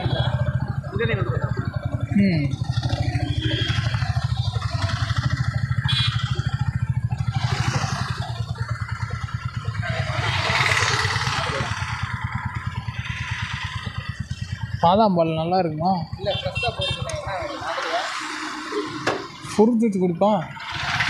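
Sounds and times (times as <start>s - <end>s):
motorcycle engine idling: 0.0s - 19.6s.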